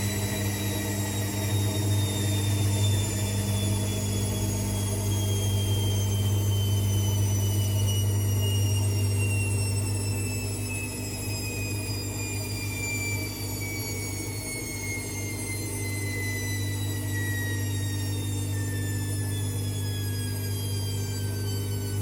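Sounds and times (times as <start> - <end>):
washing machine motor whine: 0.0 - 22.0.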